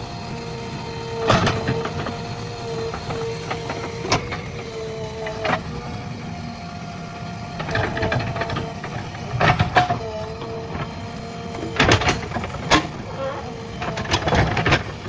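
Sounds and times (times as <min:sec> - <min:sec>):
backhoe engine and hydraulic whine: 0:00.0 - 0:15.0.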